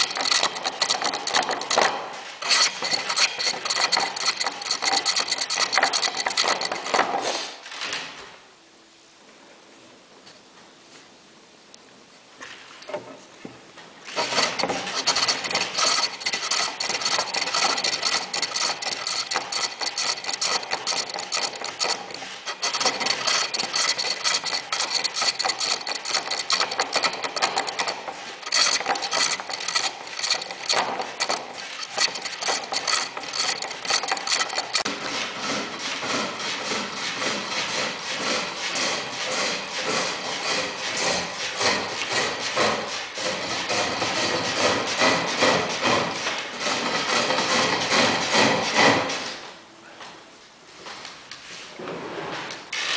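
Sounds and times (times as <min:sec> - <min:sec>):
lathe tool scraping workpiece: 0:00.0 - 0:07.6, 0:14.1 - 0:49.4.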